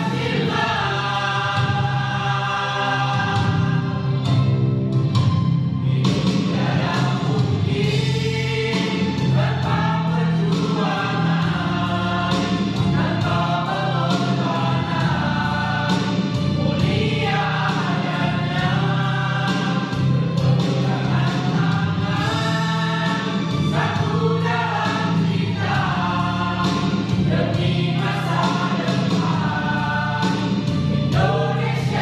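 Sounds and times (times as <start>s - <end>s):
mixed choir singing: 0.0s - 4.6s, 5.8s - 32.0s.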